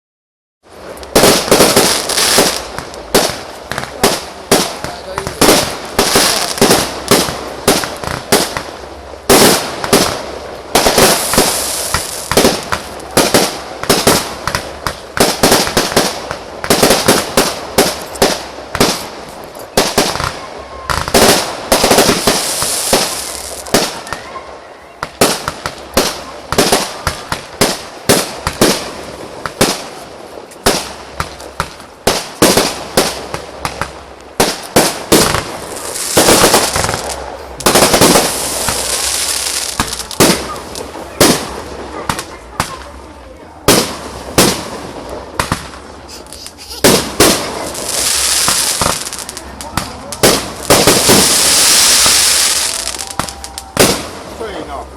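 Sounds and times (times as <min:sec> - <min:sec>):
fireworks bangs: 0:00.7 - 0:54.9
fireworks hissing: 0:00.7 - 0:54.9.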